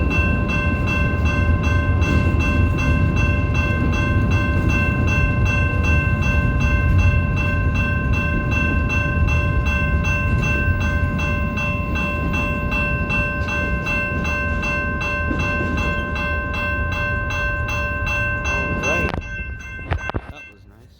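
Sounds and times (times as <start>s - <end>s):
freight train rumbling by: 0.0s - 20.9s
pulsing ringing tones: 0.0s - 20.9s.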